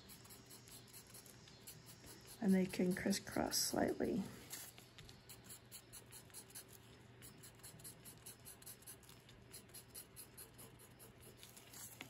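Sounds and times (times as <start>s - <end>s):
skewer scratching on paper: 0.0s - 3.4s, 4.5s - 12.0s.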